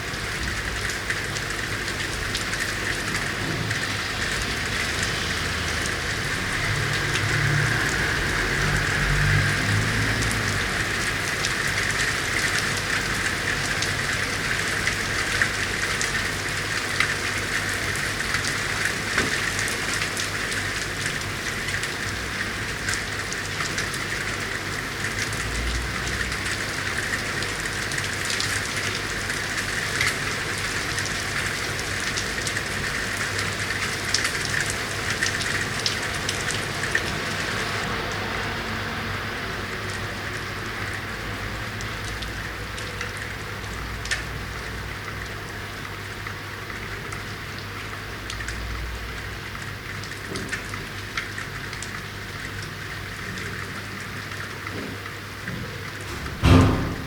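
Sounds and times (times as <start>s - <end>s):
raindrops ticking on hard surfaces: 0.0s - 57.0s
steady rain hiss: 0.0s - 57.0s.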